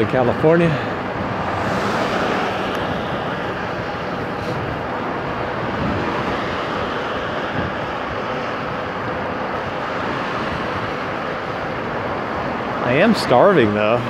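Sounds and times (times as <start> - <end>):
road noise: 0.0 - 14.0
wind rushing over microphone: 0.0 - 14.0.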